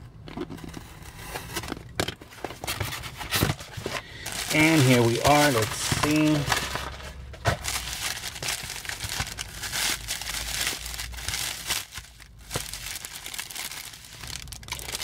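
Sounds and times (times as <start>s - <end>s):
plastic crinkling and rustling: 0.3s - 15.0s.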